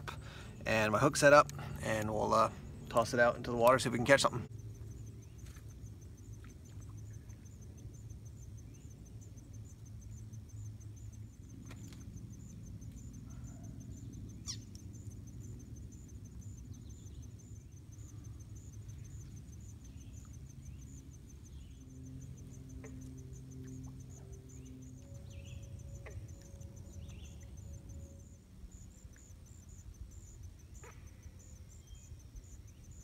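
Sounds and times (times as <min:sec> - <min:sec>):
insect chirping: 0:00.0 - 0:33.0
low steady rumble: 0:00.0 - 0:33.0.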